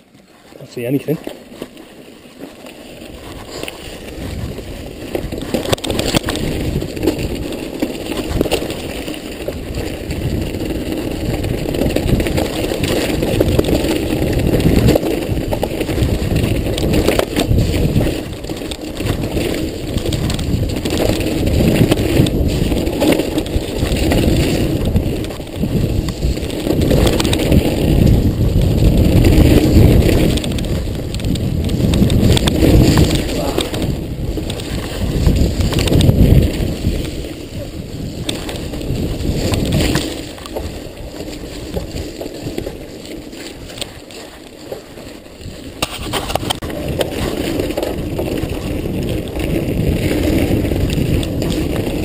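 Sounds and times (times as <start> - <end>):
bike rattling over bumps: 0.0 - 52.0
bike tyres crunching on gravel: 0.0 - 52.0
wind buffeting microphone: 3.0 - 52.0.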